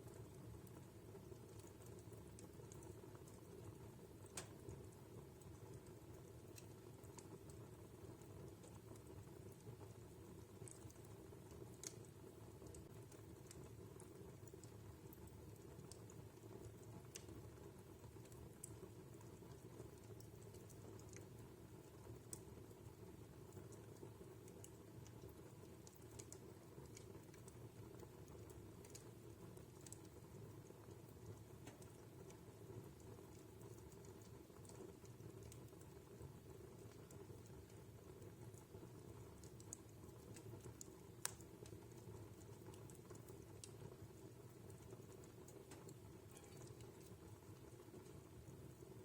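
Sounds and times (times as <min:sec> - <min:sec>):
fireplace fire crackling: 0:00.0 - 0:49.0.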